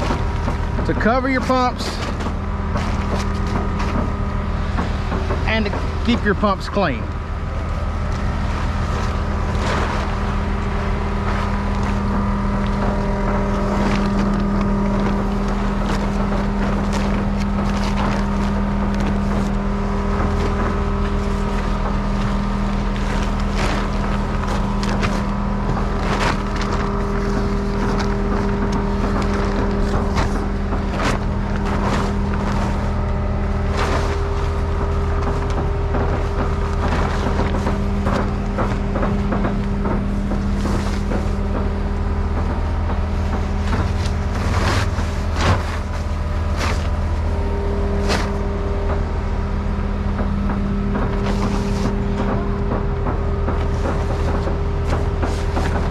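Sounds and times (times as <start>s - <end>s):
heavy equipment engine running: 0.0s - 55.9s
knocks and clicks: 9.0s - 55.9s.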